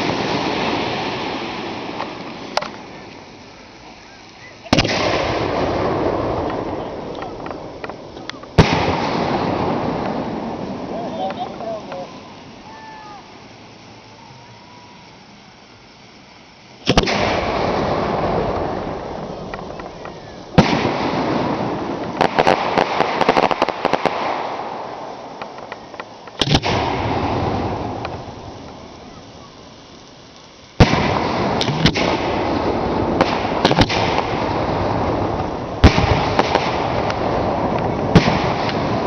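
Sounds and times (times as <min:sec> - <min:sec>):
firework pops: 0:00.0 - 0:03.4, 0:04.6 - 0:12.1, 0:16.8 - 0:39.0
firework shells banging: 0:00.0 - 0:03.4, 0:04.6 - 0:13.4, 0:16.8 - 0:39.0
rapid firework crackles: 0:00.0 - 0:39.0.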